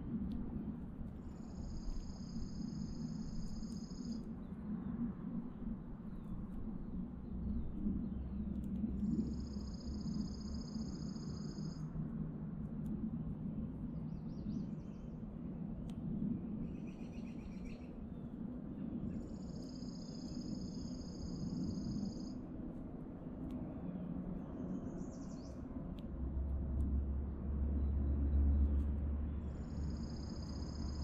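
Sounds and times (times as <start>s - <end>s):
steady low background hum: 0.0s - 31.0s.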